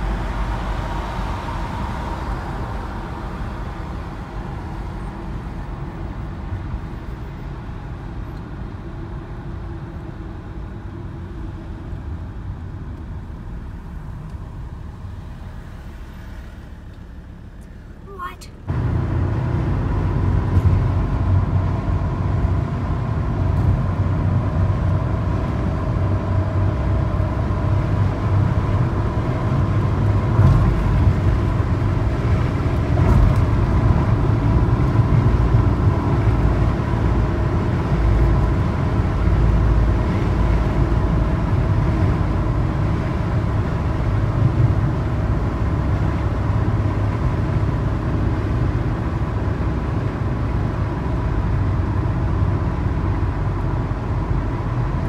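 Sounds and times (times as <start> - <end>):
car engine drone: 0.0 - 55.0
road and wind noise: 0.0 - 55.0.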